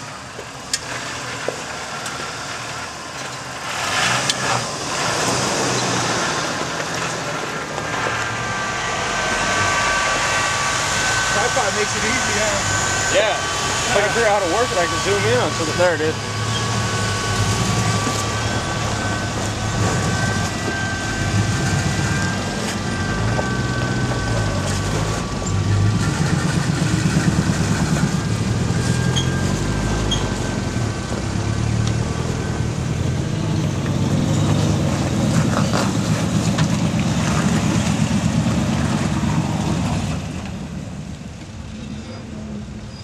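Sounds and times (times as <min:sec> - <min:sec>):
thin high whine: 0:00.0 - 0:36.4
off-road vehicle engine rumbling: 0:00.0 - 0:43.0.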